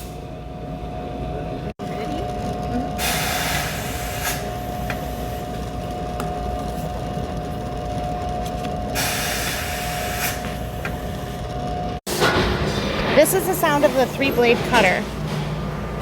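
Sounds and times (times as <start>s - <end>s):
printing press humming: 0.0s - 16.0s.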